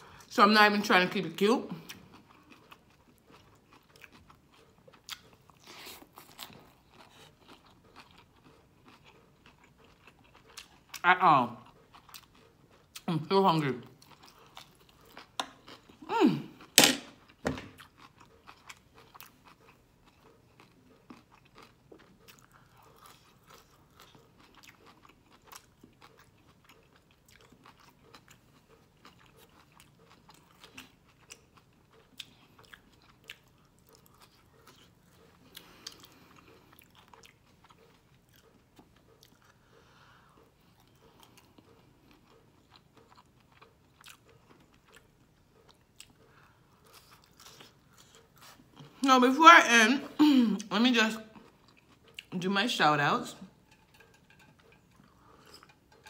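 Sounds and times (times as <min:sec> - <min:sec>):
chewing and crunching food: 0:00.0 - 0:49.7, 0:50.5 - 0:56.0.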